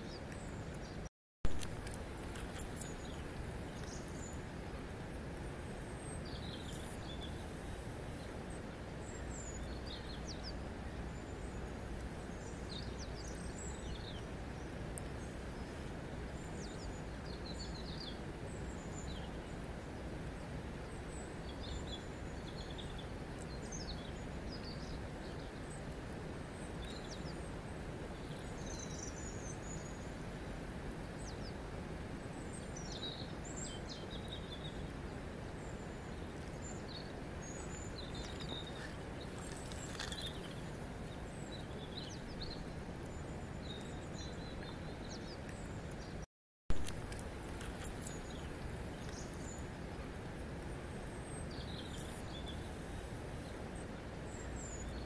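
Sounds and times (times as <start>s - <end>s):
river water flowing over stones: 1.5s - 46.0s, 46.7s - 55.0s
small birds chirping: 1.8s - 4.5s, 5.7s - 19.6s, 20.4s - 30.4s, 32.3s - 46.2s, 46.8s - 50.1s, 50.7s - 55.0s.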